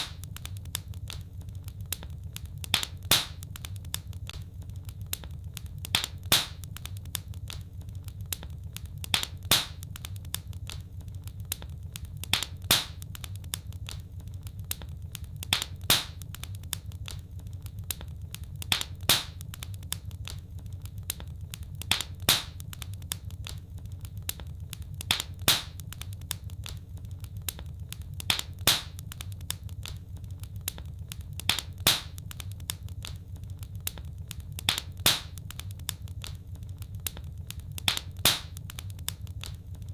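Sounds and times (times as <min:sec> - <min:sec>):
sharp pops from fire: 0:00.0 - 0:39.9
wood fire crackling: 0:00.0 - 0:39.9.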